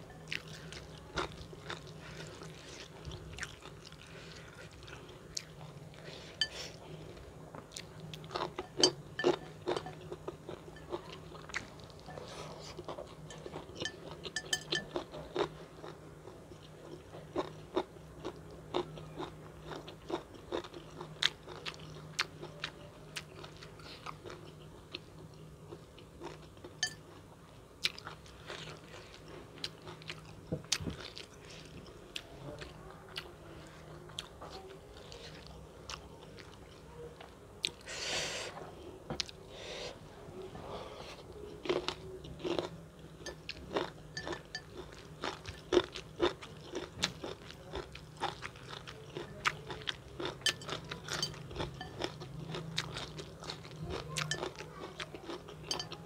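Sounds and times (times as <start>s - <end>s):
close-miked chewing and crunching: 0.0s - 39.4s, 40.4s - 56.0s
faint low hum: 0.0s - 56.0s.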